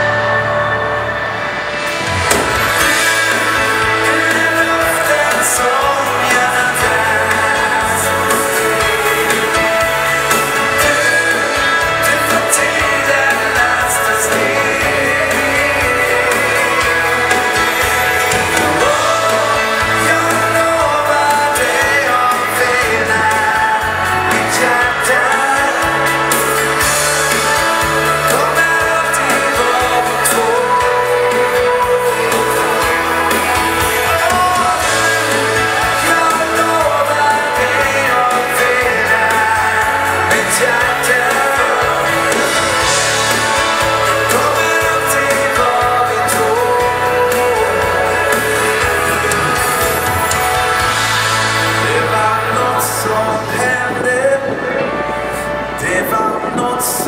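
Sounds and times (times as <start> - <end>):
live dance band playing: 0.0 - 57.0
person singing: 0.0 - 57.0.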